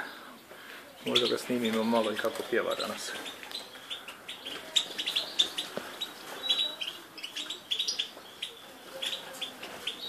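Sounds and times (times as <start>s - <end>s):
bird chirping and twittering: 0.9s - 10.0s.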